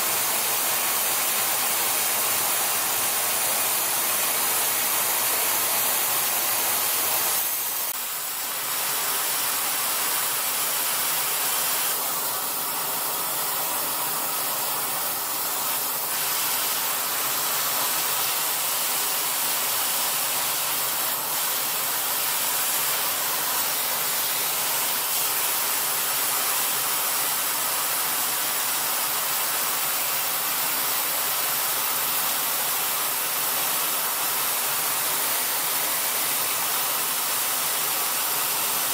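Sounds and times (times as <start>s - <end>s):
metal spray gun hissing: 0.0s - 38.9s.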